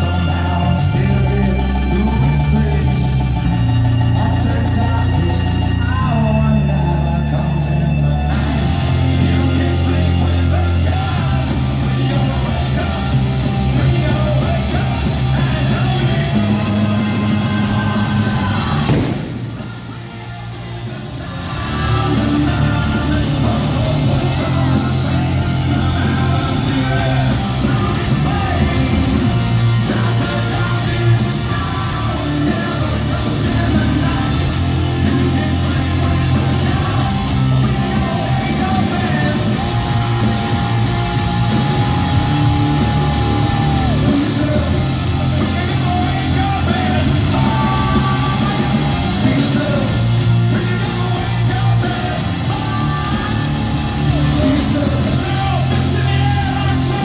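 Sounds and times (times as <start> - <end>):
hard rock band playing live: 0.0 - 57.0
lead singer belting: 0.0 - 57.0.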